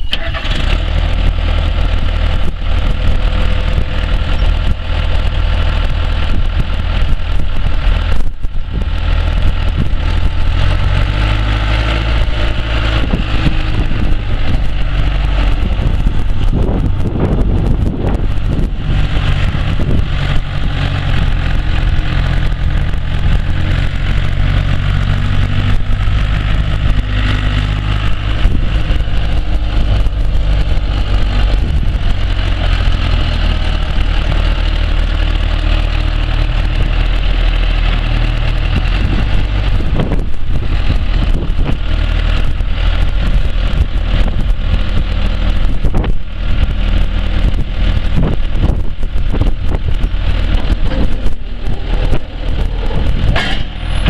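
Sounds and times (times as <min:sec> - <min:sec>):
diesel engine running at low speed: 0:00.0 - 0:54.0.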